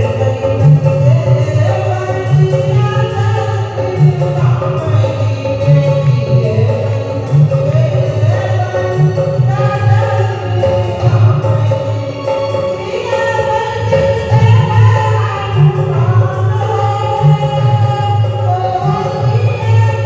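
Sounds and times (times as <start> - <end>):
voices singing devotional song: 0.0 - 20.0.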